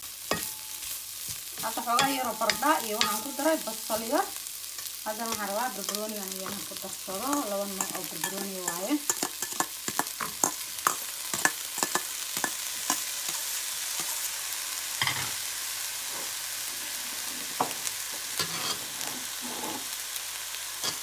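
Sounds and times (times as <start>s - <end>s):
meat and onions sizzling: 0.0s - 21.0s.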